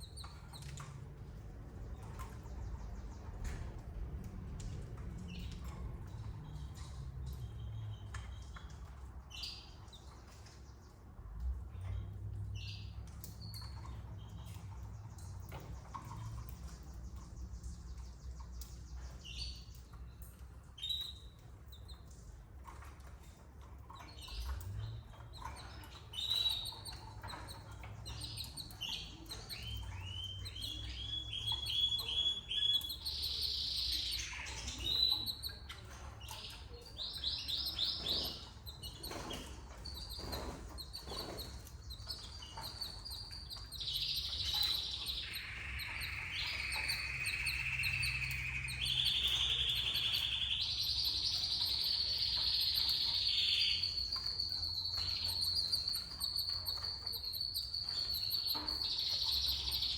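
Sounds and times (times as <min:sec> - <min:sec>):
canaries chirping and trilling: 0:00.0 - 0:59.9
small clicks and knocks: 0:00.0 - 0:59.9.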